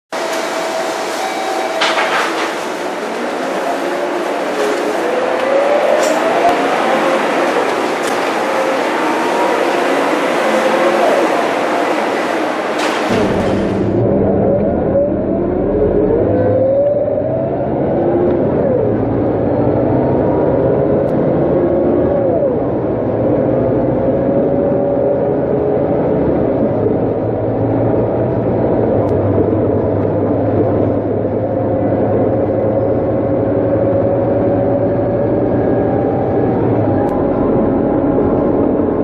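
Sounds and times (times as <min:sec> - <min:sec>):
bus engine drone: 0:00.1 - 0:39.0
gearbox whine: 0:00.1 - 0:39.0.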